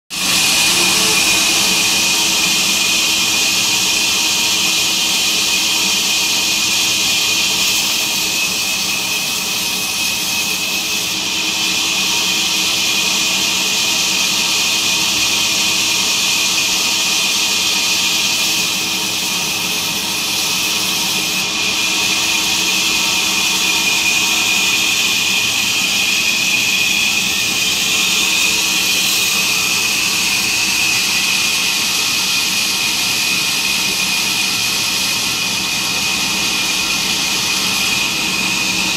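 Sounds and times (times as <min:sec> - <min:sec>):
band saw cutting log: 0:00.1 - 0:38.9.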